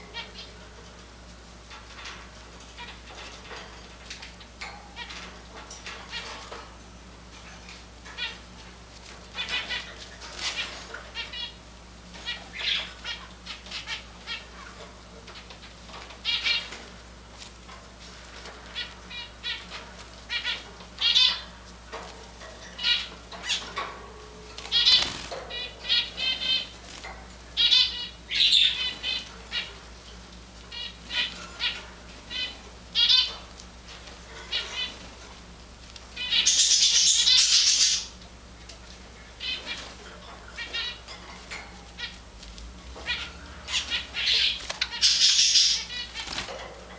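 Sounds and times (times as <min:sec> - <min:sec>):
sparrows chirping: 0:00.0 - 0:00.8, 0:01.7 - 0:06.8, 0:07.4 - 0:35.4, 0:36.0 - 0:38.2, 0:38.9 - 0:42.2, 0:42.9 - 0:46.9.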